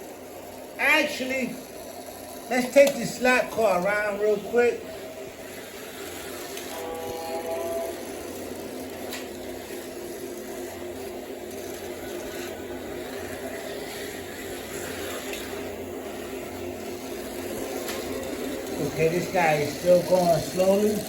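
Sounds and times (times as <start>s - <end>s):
model train motors humming: 0.0s - 21.0s.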